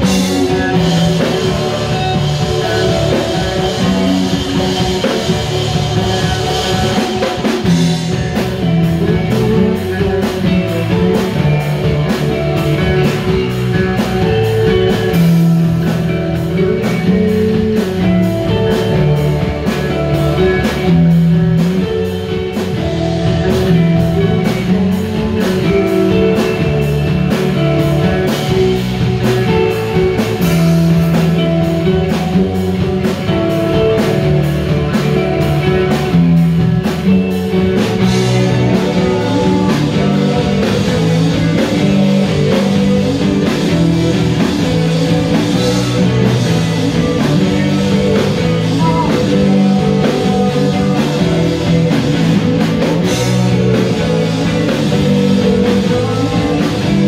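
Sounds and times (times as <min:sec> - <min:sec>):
drum kit beat: 0:00.0 - 0:57.0
electric bass: 0:00.0 - 0:57.0
electric guitars: 0:00.0 - 0:57.0.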